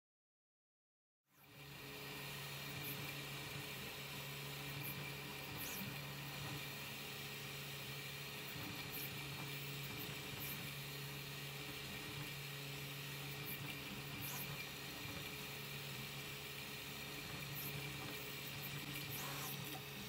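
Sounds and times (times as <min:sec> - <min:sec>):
printer fans and motors humming: 0:01.4 - 0:20.0.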